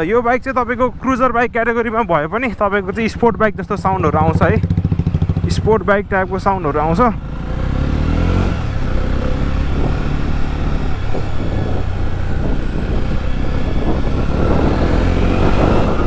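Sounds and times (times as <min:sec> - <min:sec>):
motorcycle engine running: 0:00.6 - 0:16.0.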